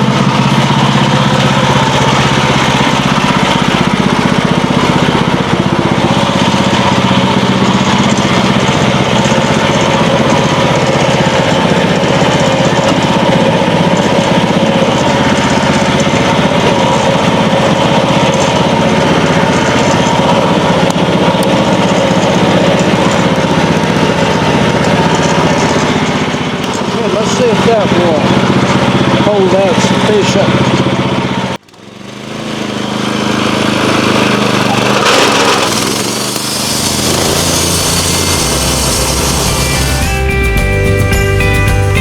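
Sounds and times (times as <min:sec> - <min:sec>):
sawmill gas engine running: 0:00.0 - 0:42.0.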